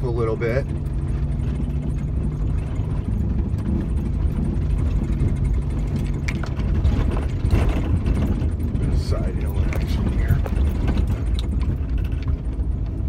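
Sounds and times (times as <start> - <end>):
knocks and rattles: 0.0 - 13.0
vehicle engine rumbling: 0.0 - 13.0.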